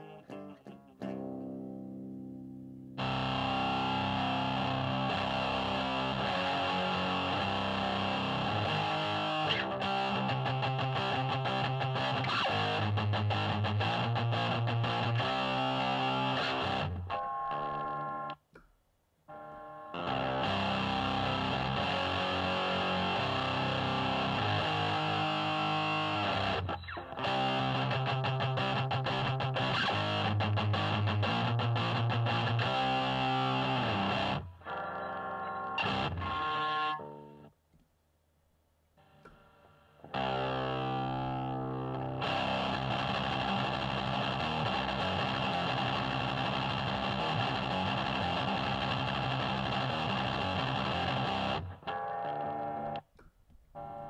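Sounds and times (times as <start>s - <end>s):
heavily distorted electric guitar chords: 0.0s - 18.4s, 19.3s - 37.5s, 40.0s - 53.0s, 53.8s - 54.0s.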